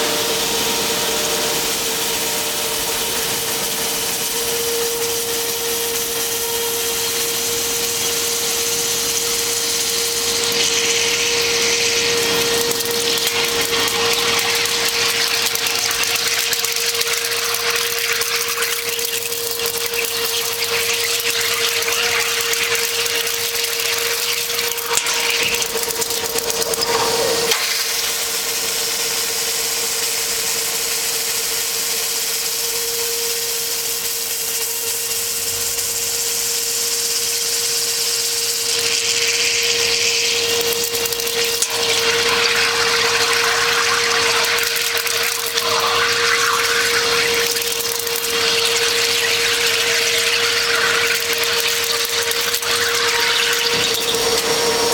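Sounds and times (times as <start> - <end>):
drilling machine whine: 0.0 - 54.9.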